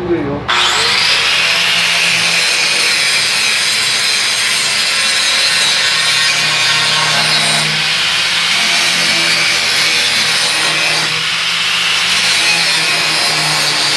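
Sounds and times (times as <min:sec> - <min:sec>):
angle grinder grinding steel: 0:00.5 - 0:13.9.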